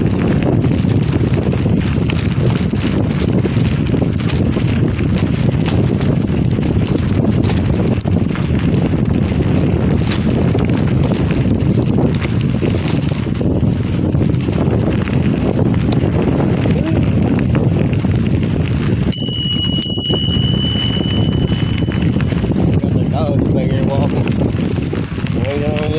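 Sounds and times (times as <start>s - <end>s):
bicycle tyres crunching on gravel: 0.0s - 25.9s.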